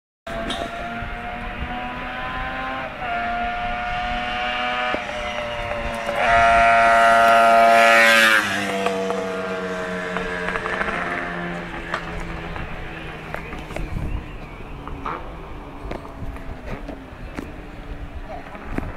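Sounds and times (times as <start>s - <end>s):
racing motorcycle engine passing: 0.3s - 18.9s.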